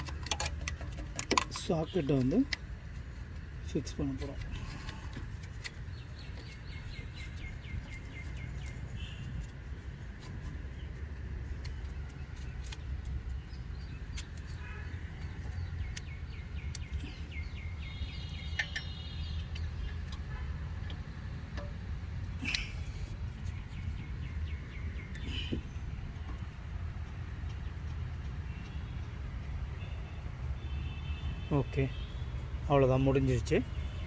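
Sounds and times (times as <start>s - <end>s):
birds chirping: 0.7s - 34.0s.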